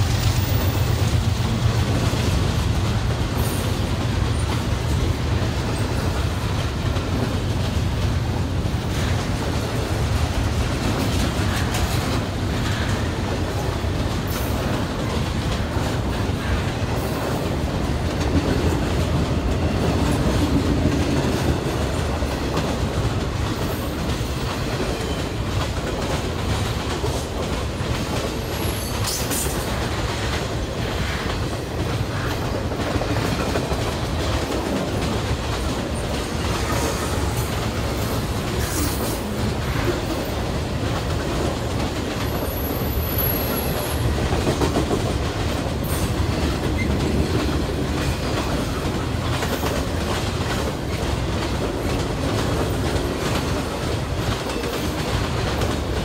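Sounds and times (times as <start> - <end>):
train clicks: 0.0 - 56.0
train wheels on rails: 0.0 - 56.0.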